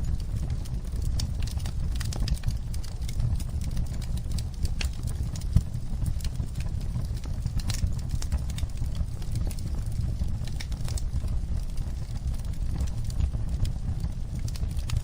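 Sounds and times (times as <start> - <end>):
fire crackling in fireplace: 0.0 - 15.0
low rumble of burning: 0.0 - 15.0.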